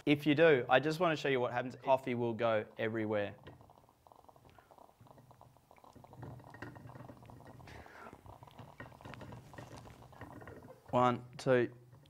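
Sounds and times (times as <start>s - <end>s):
soft hiss: 0.0s - 12.0s
espresso maker bubbling and crackling: 0.5s - 12.0s.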